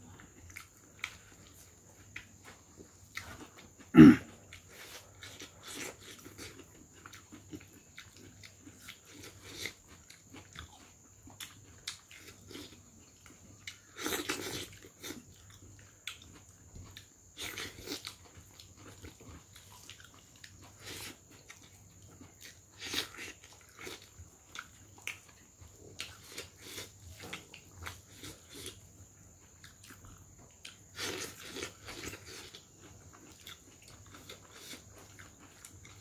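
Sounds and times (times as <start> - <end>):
wet chewing and lip-smacking: 0.1 - 3.9, 4.5 - 36.0.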